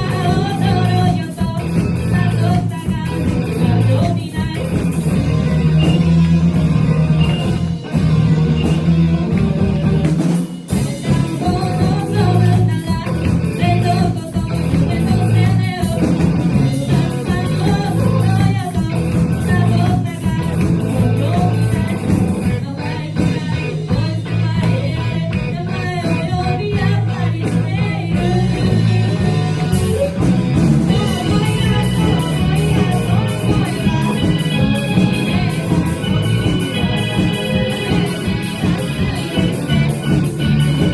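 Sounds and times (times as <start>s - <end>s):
girl singing: 0.0s - 4.9s, 10.7s - 39.7s
bass guitar: 0.0s - 40.9s
drum beats: 0.0s - 40.9s
electric guitar: 0.0s - 40.9s
rock band playing live: 0.0s - 40.9s.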